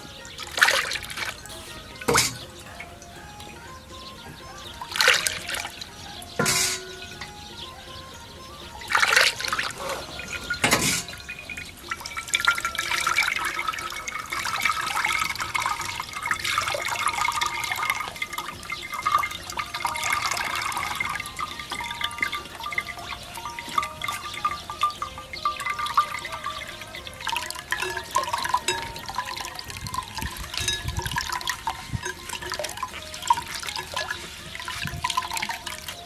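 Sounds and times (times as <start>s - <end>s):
liquid splashing: 0.0s - 7.5s, 8.6s - 36.0s
liquid trickling through cloth: 0.0s - 7.8s, 8.6s - 36.0s.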